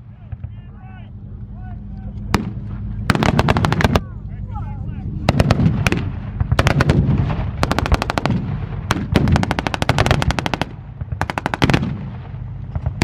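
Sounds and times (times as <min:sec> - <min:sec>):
tank engine humming: 0:00.0 - 0:13.0.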